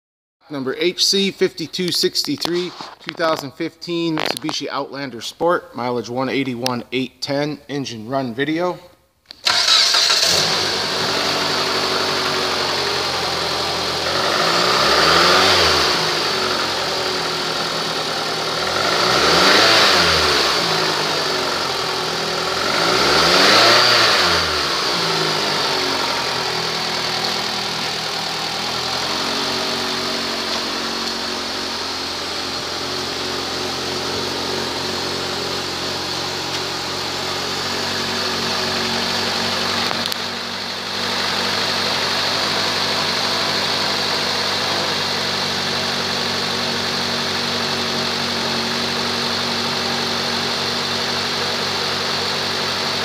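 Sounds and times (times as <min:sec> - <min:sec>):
car engine revving and idling: 0:09.4 - 0:53.0.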